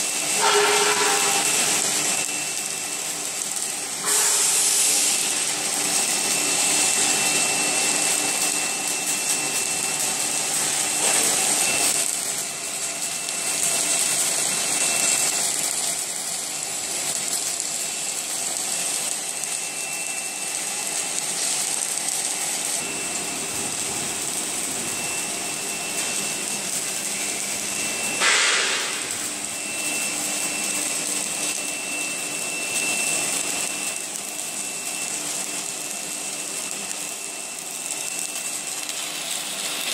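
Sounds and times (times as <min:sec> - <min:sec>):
thin steady whine: 0:00.0 - 0:39.9
welding machine hum and hiss: 0:00.0 - 0:39.9.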